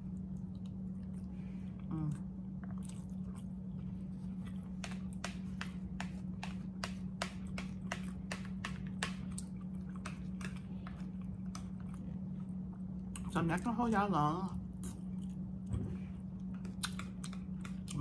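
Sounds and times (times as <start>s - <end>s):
person chewing with smacking: 0.0s - 13.4s, 14.6s - 18.0s
low hum: 0.0s - 18.0s.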